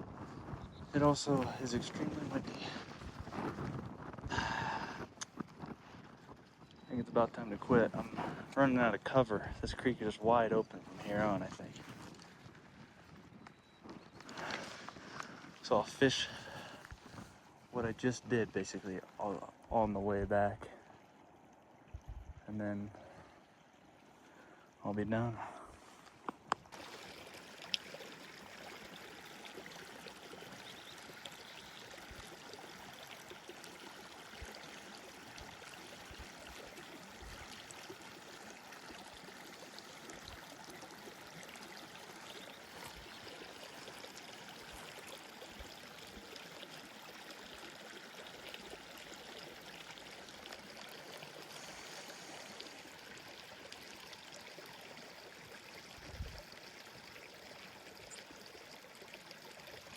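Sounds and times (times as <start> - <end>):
creek flowing: 0.0 - 59.9.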